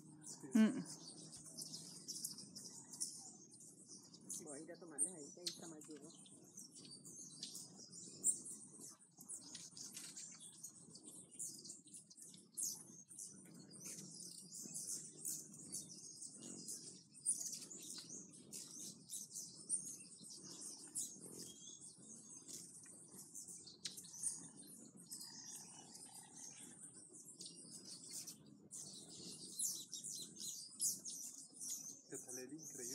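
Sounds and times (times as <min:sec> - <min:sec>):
hummingbirds chirping: 0:00.0 - 0:32.9.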